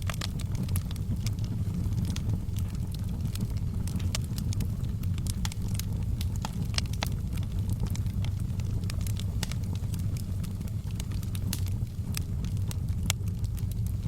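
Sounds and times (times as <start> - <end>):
burning wood crackling and popping: 0.0 - 14.0
fire flames rumbling: 0.0 - 14.0.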